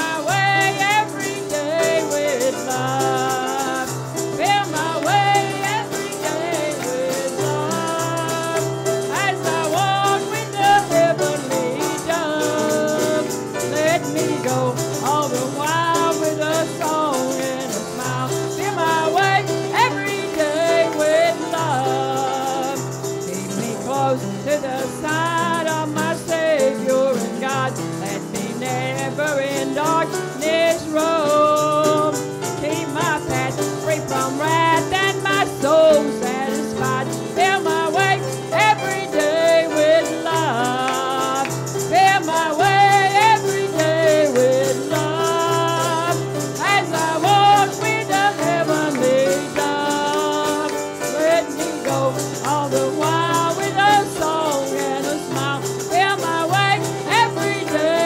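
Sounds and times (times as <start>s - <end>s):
shaken rattle: 0.0s - 58.0s
woman singing a hymn: 0.0s - 58.0s.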